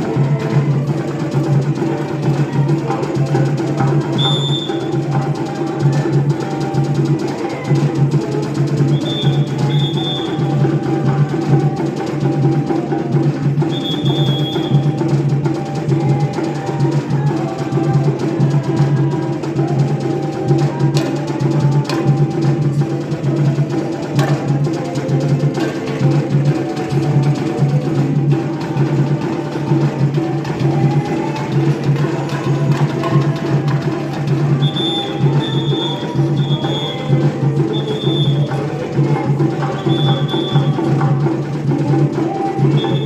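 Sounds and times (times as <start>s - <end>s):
drums and percussion: 0.0s - 43.0s.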